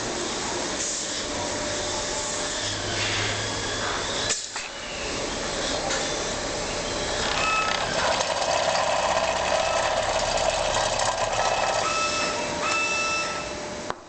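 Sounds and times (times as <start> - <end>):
loud machinery noise: 0.0 - 14.0.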